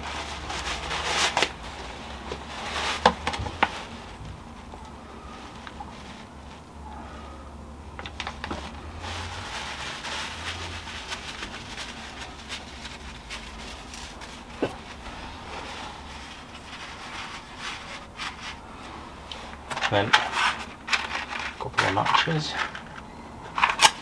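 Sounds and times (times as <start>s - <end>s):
paper crinkling: 0.0s - 6.6s, 8.0s - 24.0s.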